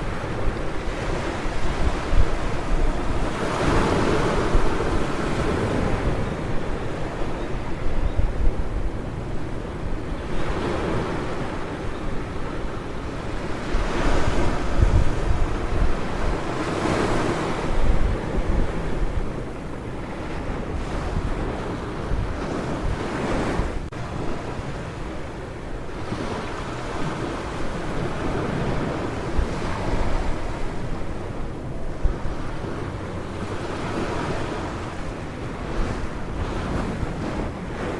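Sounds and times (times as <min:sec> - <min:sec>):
ocean waves breaking on beach: 0:00.0 - 0:37.9
wind rumbling on microphone: 0:00.0 - 0:37.9.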